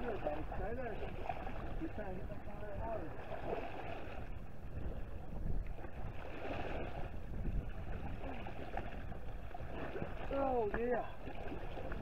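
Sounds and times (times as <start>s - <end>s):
river water flowing: 0.0s - 12.0s
wind buffeting microphone: 0.0s - 12.0s.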